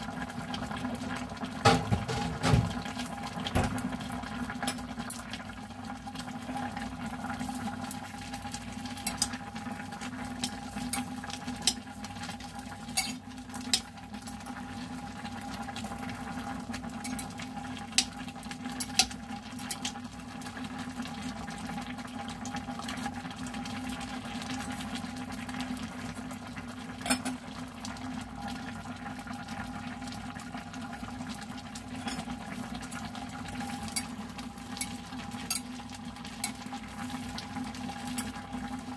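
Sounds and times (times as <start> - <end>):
water bubbling at a boil: 0.0 - 38.9.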